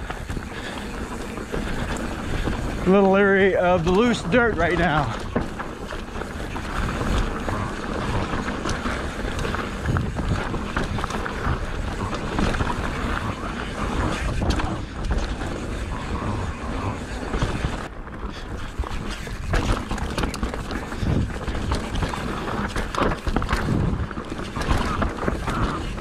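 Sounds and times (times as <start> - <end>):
bike clicks and rattles: 0.0 - 26.0
steady rushing noise: 0.0 - 26.0
tyres rolling over loose dirt: 0.0 - 26.0.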